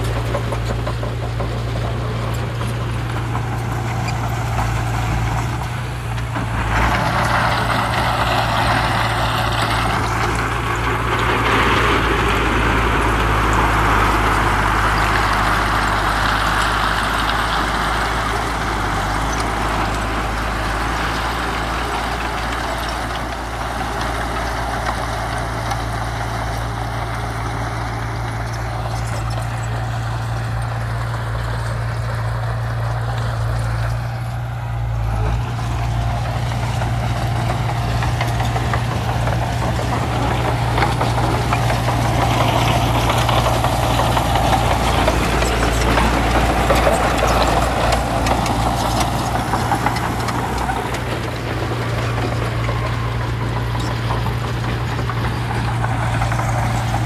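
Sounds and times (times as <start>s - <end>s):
diesel machine engine droning: 0.0s - 57.0s.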